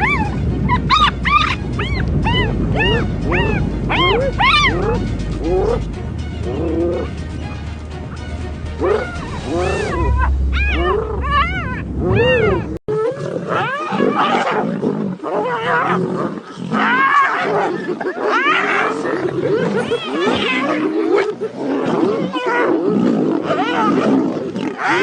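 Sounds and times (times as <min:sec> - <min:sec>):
big cats yowling and snarling: 0:00.0 - 0:05.8, 0:10.6 - 0:25.0.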